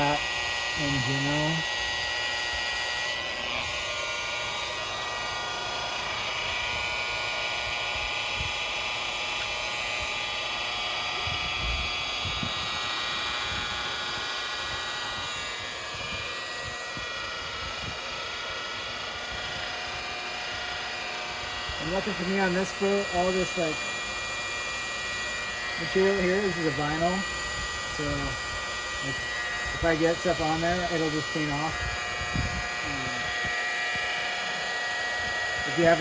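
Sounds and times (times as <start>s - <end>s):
rotary polisher running: 0.0s - 36.0s.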